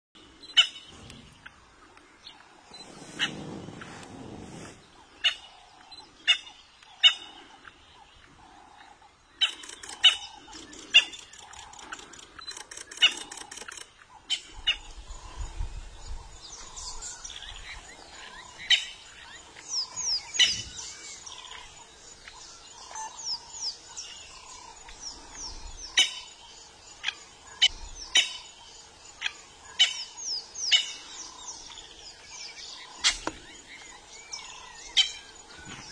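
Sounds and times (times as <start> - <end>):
birds chirping: 0.2 - 35.9.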